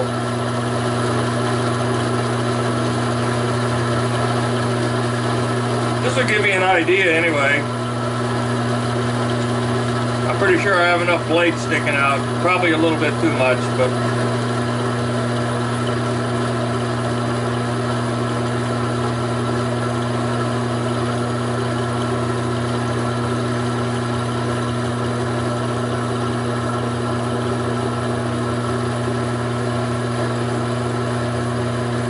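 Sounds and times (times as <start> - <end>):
lathe motor hum: 0.0 - 32.0.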